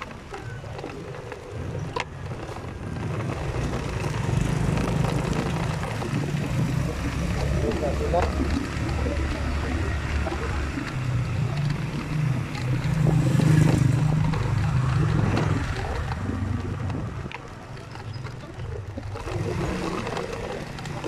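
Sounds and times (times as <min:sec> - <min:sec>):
oncoming vehicle passing: 0:00.0 - 0:21.0
vehicle engine running: 0:00.0 - 0:21.0.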